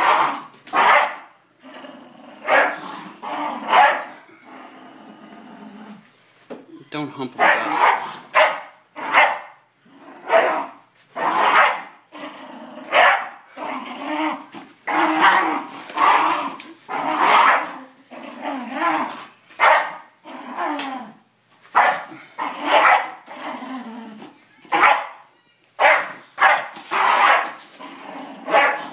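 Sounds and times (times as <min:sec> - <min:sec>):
dogs growling and barking: 0:00.0 - 0:06.1, 0:07.4 - 0:25.0, 0:25.8 - 0:28.9.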